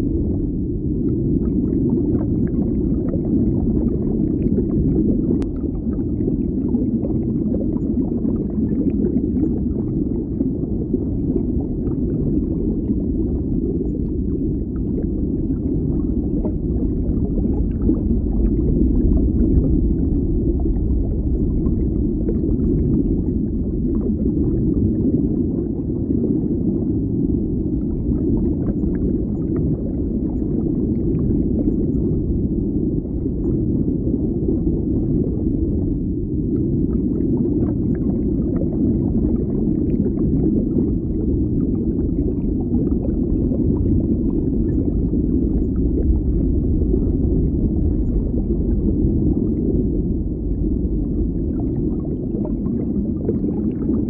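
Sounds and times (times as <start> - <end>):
muffled underwater bubbling: 0.0 - 54.0.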